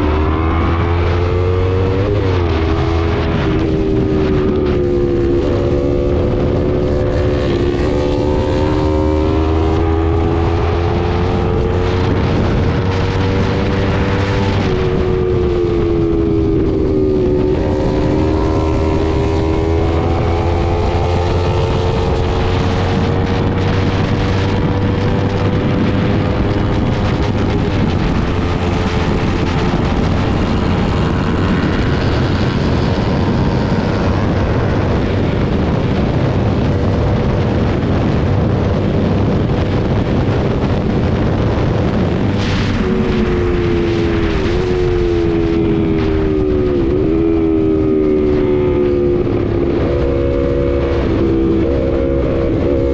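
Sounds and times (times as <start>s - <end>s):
motorcycle engine running: 0.0s - 52.9s
wind rushing over microphone: 0.0s - 52.9s.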